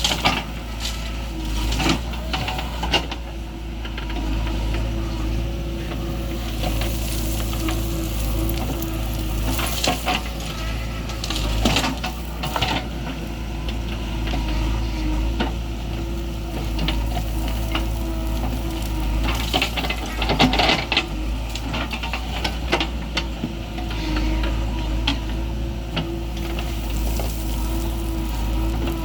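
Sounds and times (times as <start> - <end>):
gritty rattling and scraping: 0.0 - 3.2, 3.9 - 29.0
diesel engine running: 0.0 - 29.0.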